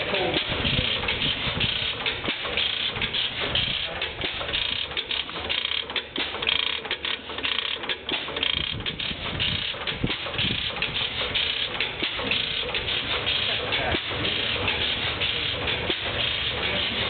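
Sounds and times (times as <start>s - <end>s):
stationary gas engines clattering: 0.0s - 17.0s.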